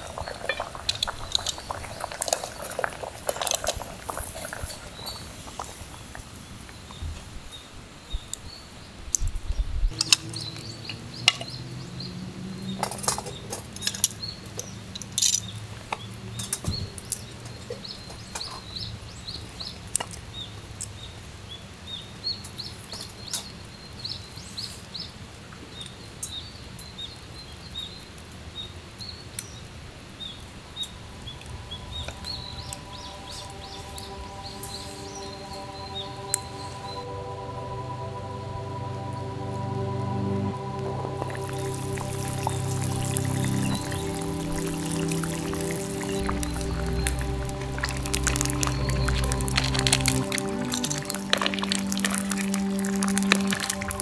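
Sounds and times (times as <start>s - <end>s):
small birds chirping: 0.0s - 37.1s, 40.0s - 54.0s.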